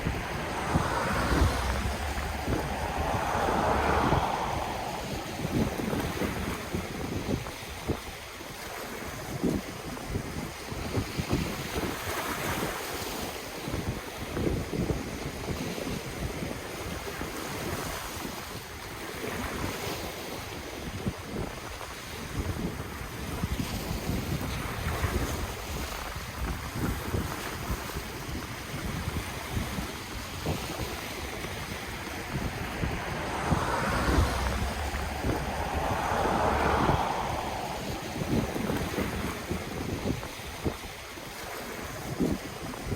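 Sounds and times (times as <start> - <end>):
ocean waves washing on shore: 0.0 - 42.9
wind buffeting the microphone: 0.0 - 42.9.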